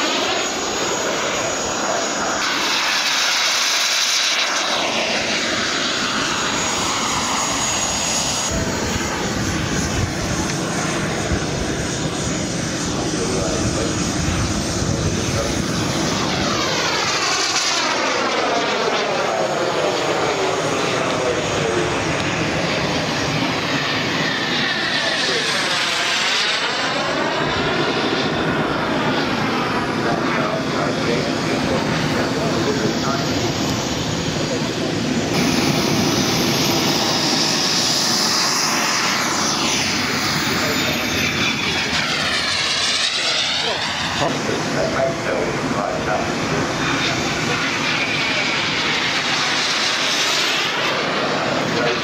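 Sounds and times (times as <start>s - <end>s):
model jet engines whining: 0.0s - 52.0s.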